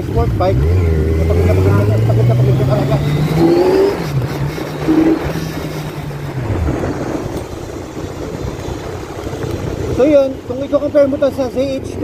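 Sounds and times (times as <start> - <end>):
motorcycle engine running: 0.0 - 12.0
steady rushing noise: 1.8 - 12.0.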